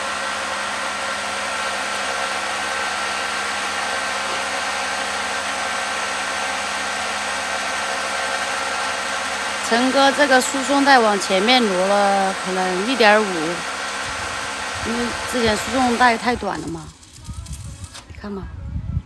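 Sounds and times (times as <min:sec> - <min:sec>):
machinery humming: 0:00.0 - 0:18.2.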